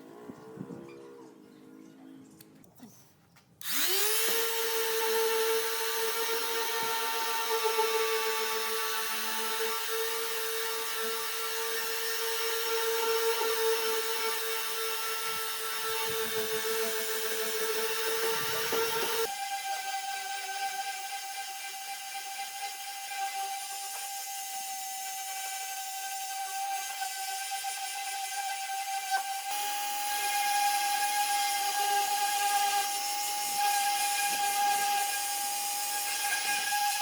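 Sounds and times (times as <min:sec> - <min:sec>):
power tool motor whining: 0:03.6 - 0:37.0.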